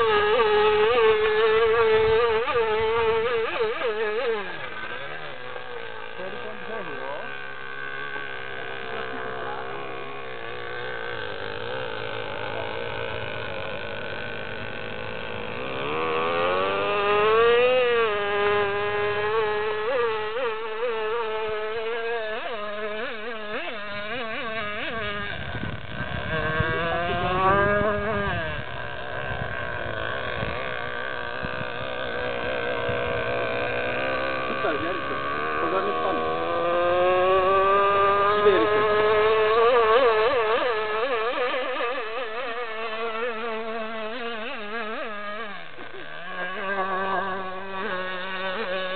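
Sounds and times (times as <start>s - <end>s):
model boat engine buzzing whine: 0.0s - 48.9s.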